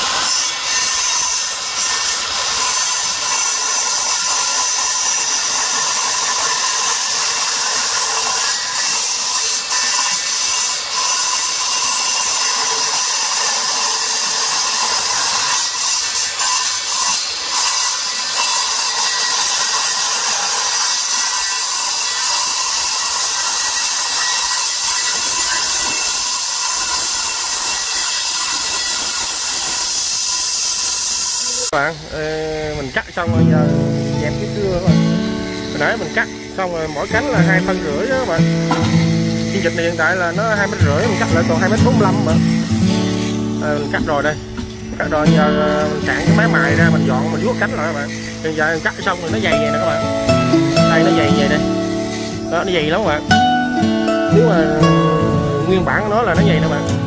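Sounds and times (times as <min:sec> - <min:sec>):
circular saw cutting metal: 0:00.0 - 0:57.0.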